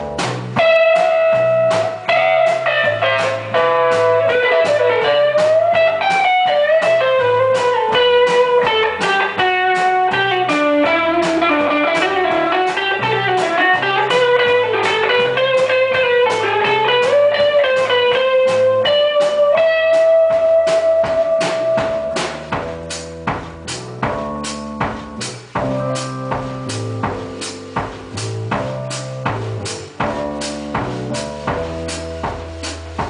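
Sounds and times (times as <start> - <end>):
electric guitar lead: 0.0 - 27.8
bass guitar: 0.0 - 33.0
drum kit: 0.0 - 33.0.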